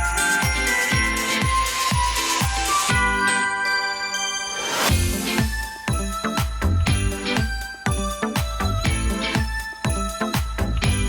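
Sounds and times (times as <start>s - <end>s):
upbeat music with drum beat: 0.0s - 3.4s, 4.9s - 11.0s.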